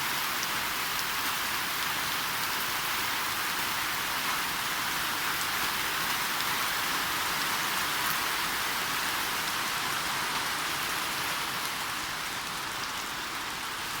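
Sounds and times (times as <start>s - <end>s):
rain falling steadily: 0.0s - 14.0s.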